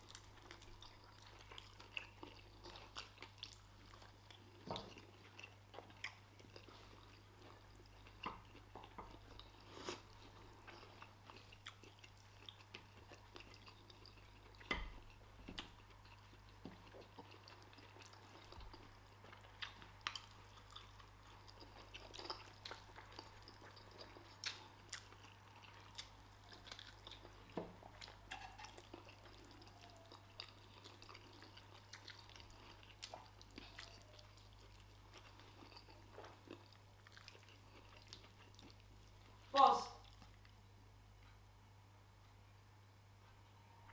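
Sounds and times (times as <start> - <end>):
people chewing and eating: 0.0 - 41.5.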